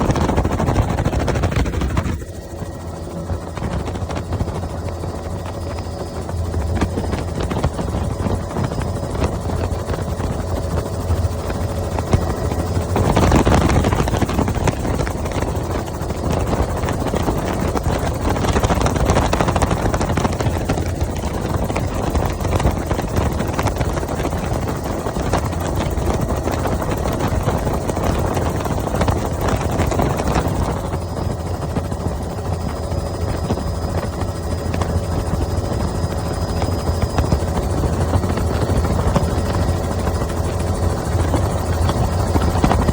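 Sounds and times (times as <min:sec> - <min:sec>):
helicopter rotor and engine drone: 0:00.0 - 0:42.9.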